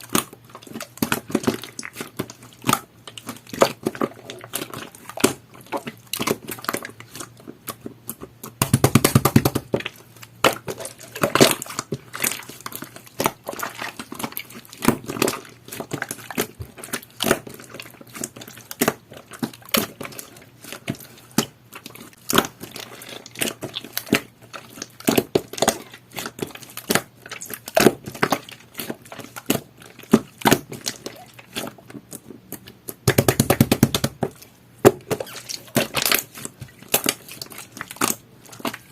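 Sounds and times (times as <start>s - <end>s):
rapid clicking of slime: 0.0s - 38.9s
slime kneaded by hand: 0.0s - 38.9s.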